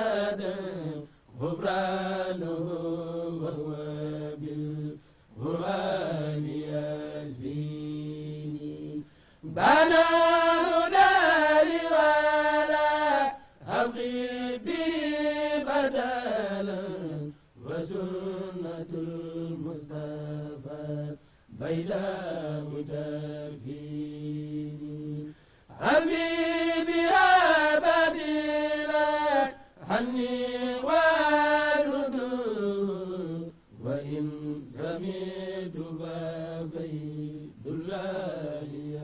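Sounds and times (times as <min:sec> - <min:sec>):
men chanting unaccompanied: 0:00.0 - 0:39.0.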